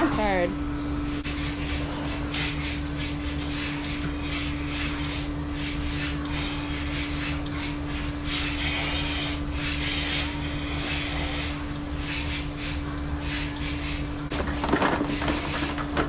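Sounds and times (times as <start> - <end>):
barn machinery hum: 0.0 - 16.0.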